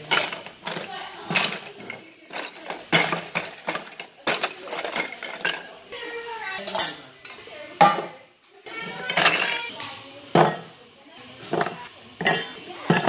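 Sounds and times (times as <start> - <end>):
plastic toys clattering in metal pan: 0.0 - 8.1, 8.7 - 10.8, 11.4 - 13.0.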